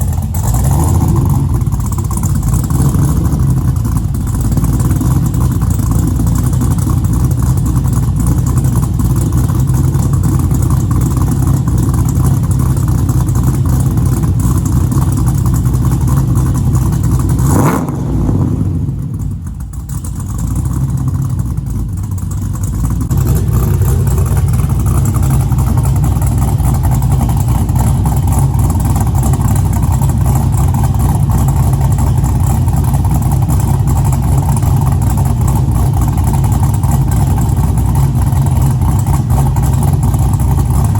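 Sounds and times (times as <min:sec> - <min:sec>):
deep car exhaust note: 0:00.0 - 0:20.3, 0:20.9 - 0:40.9.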